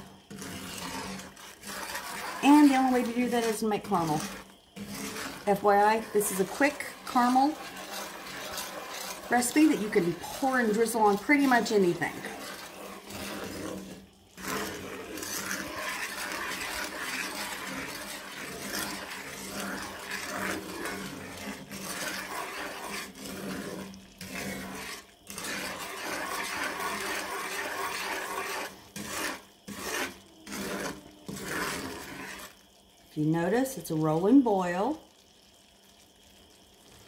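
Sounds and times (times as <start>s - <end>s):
wooden spoon scraping a skillet: 0.0s - 33.0s.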